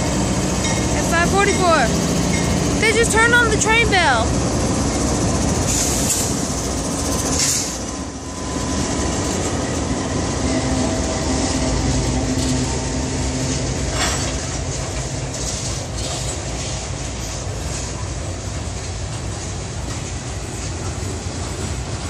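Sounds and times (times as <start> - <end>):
diesel locomotive passing: 0.0 - 22.0
sharp train clacks: 0.0 - 22.0
train wheels rumbling on rail: 0.0 - 22.0.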